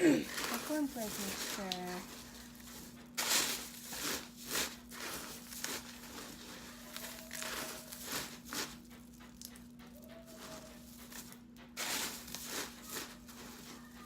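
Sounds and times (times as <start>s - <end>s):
cornflakes crunching: 0.0s - 14.0s.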